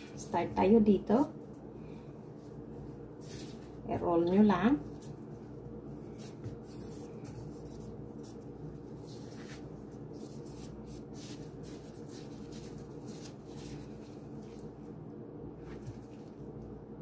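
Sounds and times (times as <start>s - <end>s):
gloved hands rubbing dough: 0.0s - 16.7s
steady low hum: 0.0s - 17.0s.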